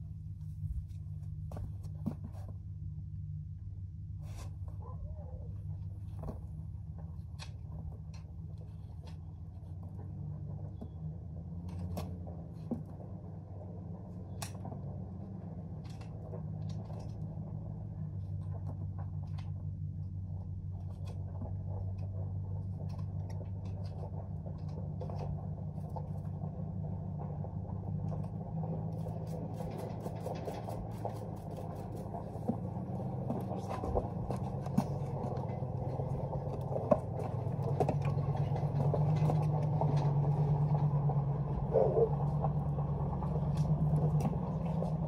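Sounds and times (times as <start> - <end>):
clicks and scrapes on hooves: 0.0 - 2.8, 4.1 - 45.0
low hum: 0.0 - 45.0.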